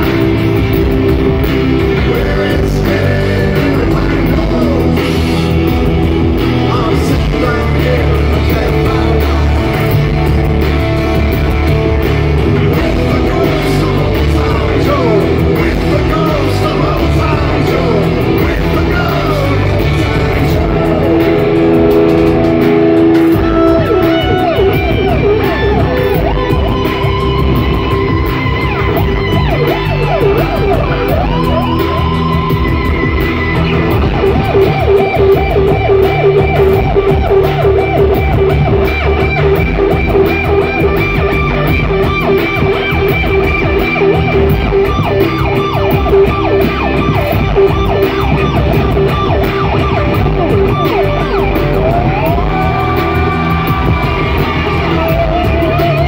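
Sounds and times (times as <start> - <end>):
distorted electric guitar solo: 0.0 - 56.0
heavy rock backing: 0.0 - 56.0.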